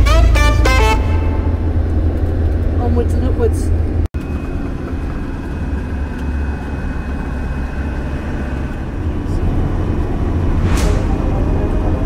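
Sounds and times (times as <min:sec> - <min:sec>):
vehicle engine and road drone: 0:00.0 - 0:12.0.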